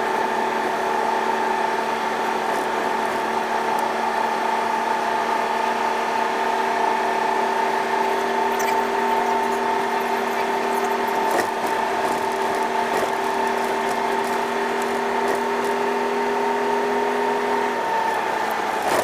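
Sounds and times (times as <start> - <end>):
truck engine drone: 0.0 - 19.0.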